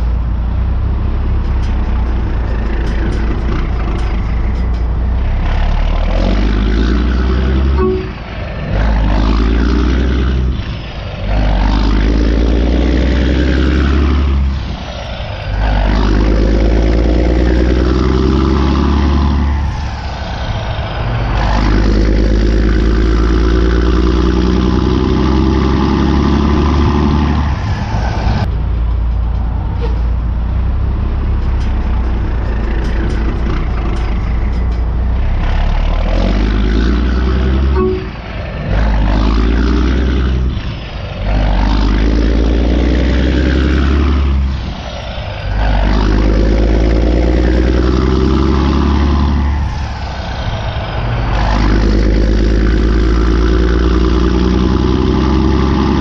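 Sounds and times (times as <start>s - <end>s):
heavy vehicle engine revving: 0.0s - 56.0s.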